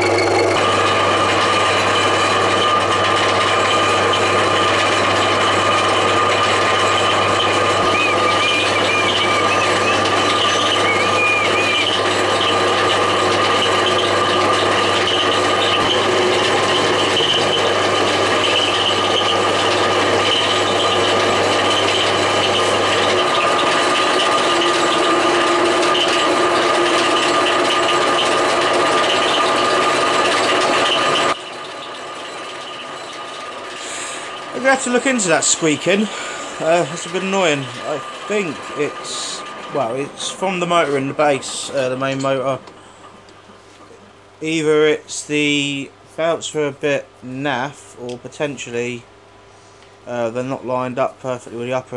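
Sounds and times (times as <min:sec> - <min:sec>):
milling machine cutting metal: 0:00.0 - 0:49.4
squeaking belt whine: 0:00.0 - 0:51.9.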